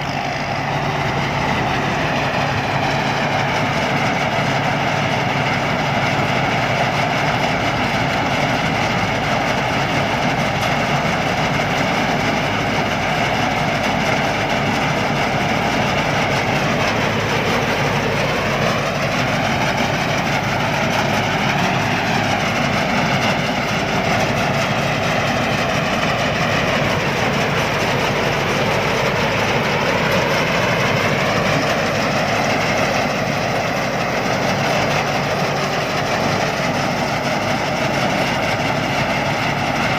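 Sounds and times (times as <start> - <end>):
harvester diesel engine running: 0.0 - 39.9.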